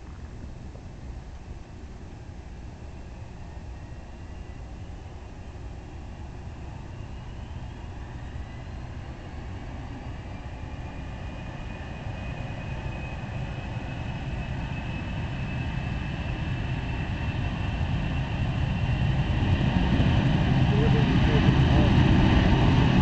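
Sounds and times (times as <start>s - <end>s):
jet engines rumbling with whine: 0.0s - 23.0s.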